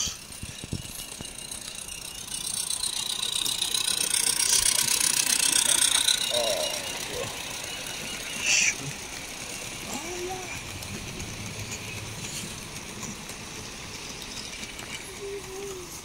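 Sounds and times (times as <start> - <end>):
model train running: 0.0 - 16.0
wheels rattling over track: 0.0 - 16.0.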